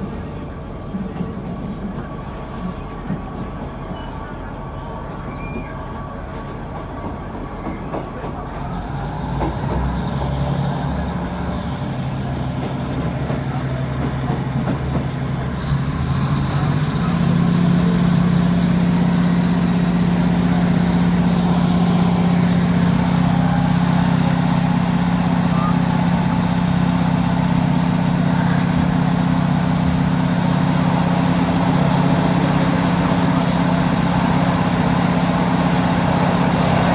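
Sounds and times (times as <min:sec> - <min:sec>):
diesel train engine humming: 0:00.0 - 0:36.9
wheel and rail noise: 0:00.0 - 0:36.9.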